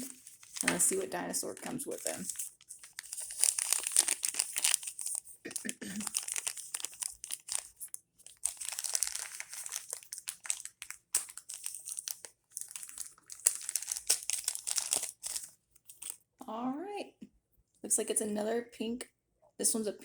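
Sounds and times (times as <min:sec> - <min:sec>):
plastic package crinkling and tearing: 0:00.0 - 0:16.3.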